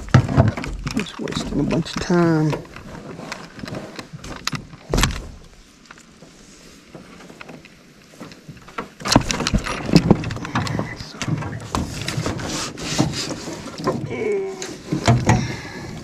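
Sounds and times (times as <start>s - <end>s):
clicks knocks and rattles on hull: 0.0s - 6.3s, 6.9s - 16.0s.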